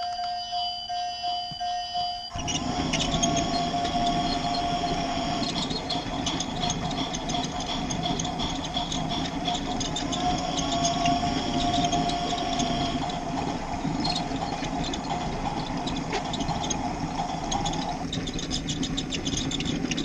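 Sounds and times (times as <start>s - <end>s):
wheel rumble: 1.5s - 20.0s
toy train motor whine: 1.6s - 20.0s
clicks over the track: 2.3s - 20.0s.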